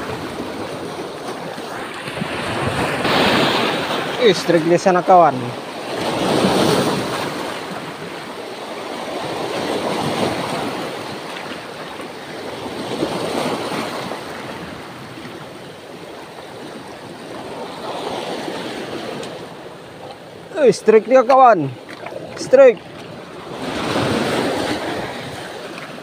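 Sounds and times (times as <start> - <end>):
sea waves washing over rocks: 0.0 - 26.0.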